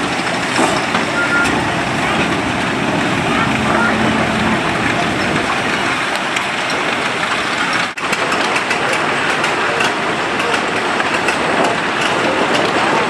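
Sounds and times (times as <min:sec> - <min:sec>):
steam engine hissing: 0:00.0 - 0:13.0.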